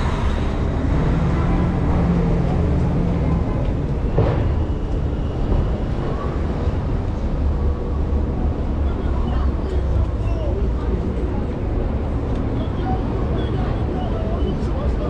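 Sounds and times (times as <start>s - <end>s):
engine hum: 0.0s - 15.0s
low rumble of vehicle engines: 0.0s - 15.0s.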